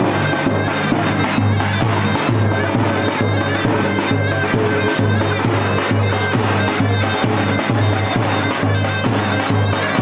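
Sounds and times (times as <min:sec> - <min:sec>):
reedy wind instrument: 0:00.0 - 0:10.0.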